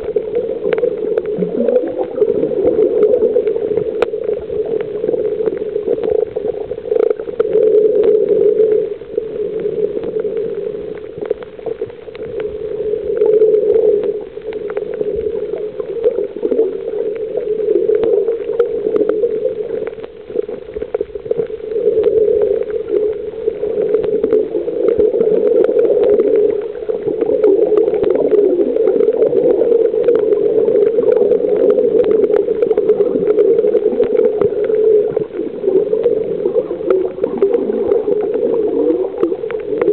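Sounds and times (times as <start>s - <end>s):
small underwater clicks and crackles: 0.0s - 39.9s
underwater rush of water: 0.0s - 39.9s.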